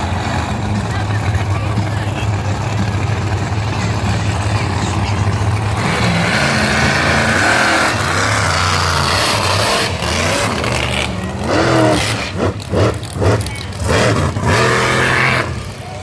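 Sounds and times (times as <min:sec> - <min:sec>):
truck engines rumbling and revving: 0:00.0 - 0:16.0.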